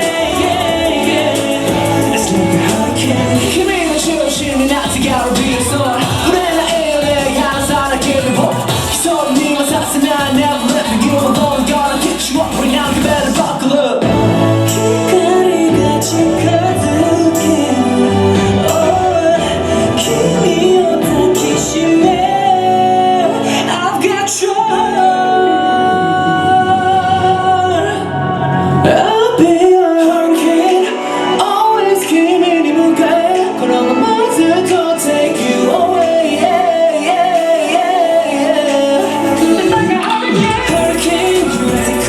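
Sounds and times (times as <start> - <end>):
pop song with singing: 0.0 - 42.0.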